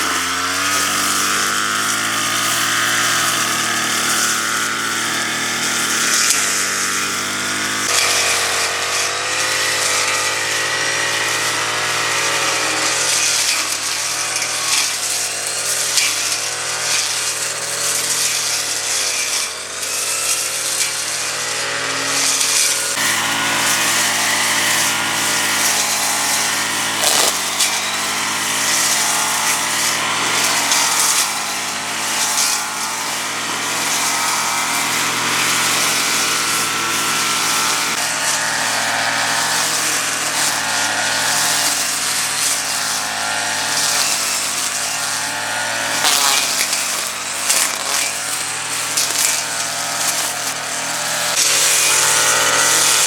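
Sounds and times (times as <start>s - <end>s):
small engine running: 0.0s - 53.0s.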